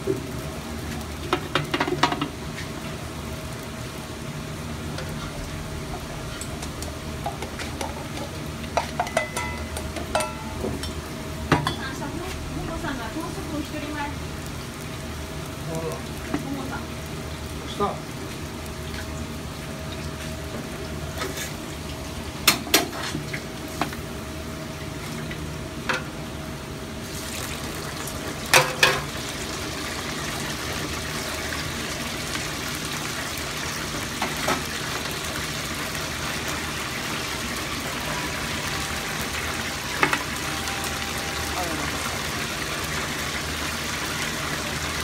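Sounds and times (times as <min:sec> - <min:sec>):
egg sizzling in a pan: 0:00.0 - 0:45.0.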